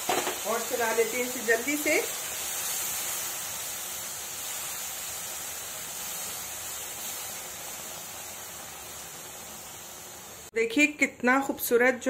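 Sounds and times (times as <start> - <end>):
syrup sizzling and bubbling: 0.0 - 10.6.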